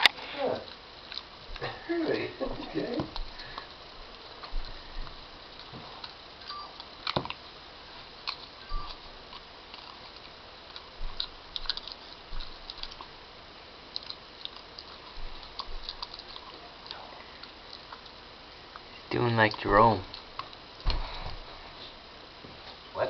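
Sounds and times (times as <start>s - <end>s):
dog chewing on a straw: 0.1s - 22.0s.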